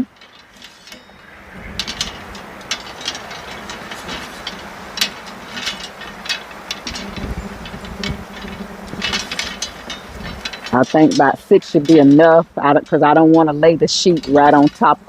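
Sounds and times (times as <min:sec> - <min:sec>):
light clicks and rattles: 0:00.0 - 0:15.0
wind buffeting microphone: 0:01.0 - 0:15.0.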